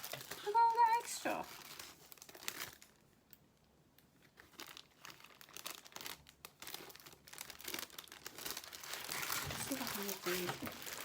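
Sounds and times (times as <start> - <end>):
plastic film crinkling: 0.0 - 11.0.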